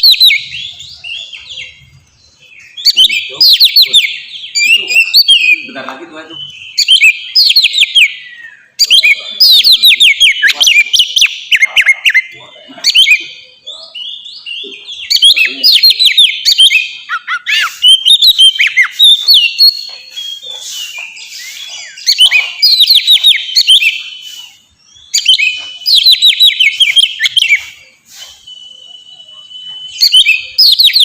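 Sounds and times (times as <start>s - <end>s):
bird singing whistled phrases: 0.0s - 31.0s.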